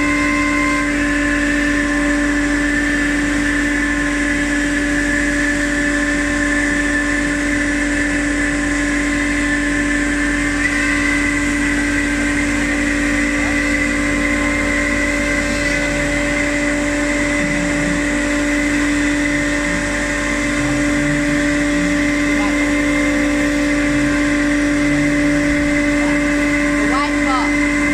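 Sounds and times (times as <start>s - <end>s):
machine whining and humming: 0.0s - 27.9s.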